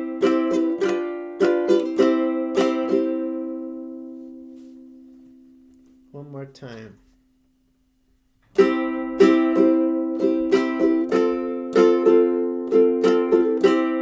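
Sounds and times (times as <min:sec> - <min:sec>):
ukulele strumming: 0:00.0 - 0:05.8, 0:08.5 - 0:14.0.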